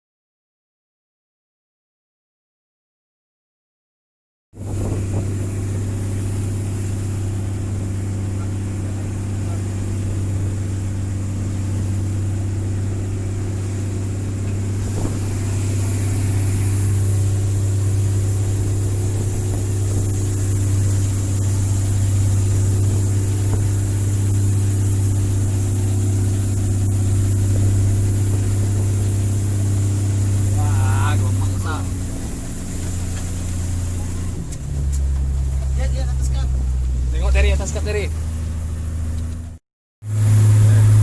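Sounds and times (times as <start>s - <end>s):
boat engine droning: 4.6s - 41.0s.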